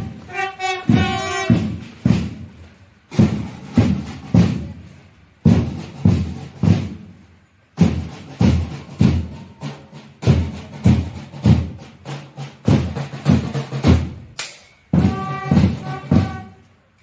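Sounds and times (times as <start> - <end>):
drum thumps in threes: 0.0 - 7.2, 7.8 - 9.4, 10.2 - 16.6.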